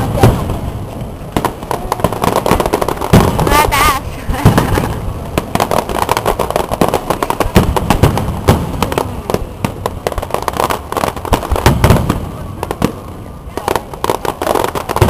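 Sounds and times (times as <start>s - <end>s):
fireworks booms: 0.0s - 15.0s
fireworks crackling: 0.0s - 15.0s.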